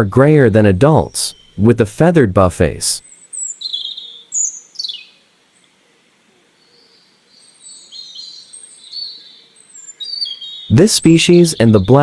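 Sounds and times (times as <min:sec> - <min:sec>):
songbirds chirping and whistling: 0:00.0 - 0:01.8, 0:03.0 - 0:12.0.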